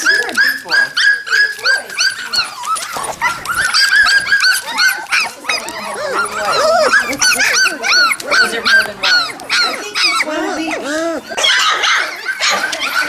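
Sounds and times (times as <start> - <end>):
puppies yipping and whimpering: 0.0 - 13.0.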